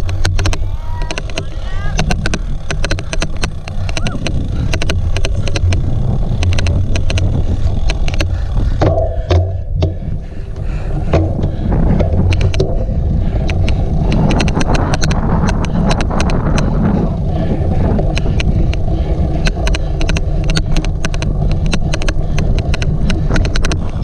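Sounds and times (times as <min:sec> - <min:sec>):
low rumble of wind: 0:00.0 - 0:24.0
rapid sharp clicking: 0:00.0 - 0:24.0.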